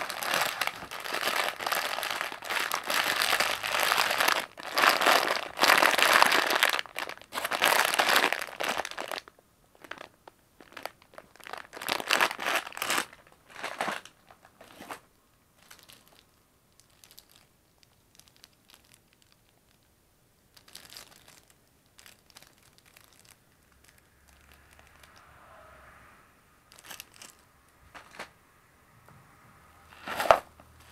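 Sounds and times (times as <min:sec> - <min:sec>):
faint packaging rustles: 0:00.0 - 0:19.9, 0:20.5 - 0:25.3, 0:26.7 - 0:28.4, 0:29.9 - 0:30.9
plastic bag crinkling: 0:00.0 - 0:19.9, 0:20.5 - 0:25.2, 0:26.7 - 0:28.3.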